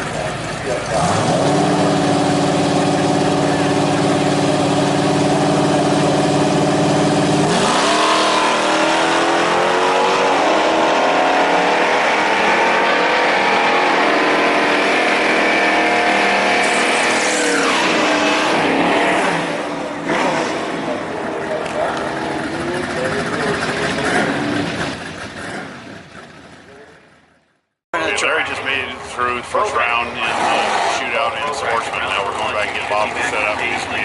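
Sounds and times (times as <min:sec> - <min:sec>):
drag racing engines revving: 0:00.0 - 0:27.2, 0:28.0 - 0:34.0.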